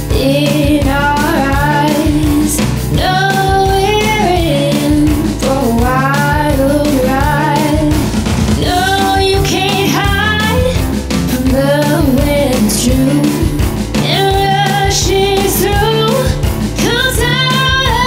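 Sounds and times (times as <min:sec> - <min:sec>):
person singing a song with band: 0:00.0 - 0:08.0, 0:08.6 - 0:18.0.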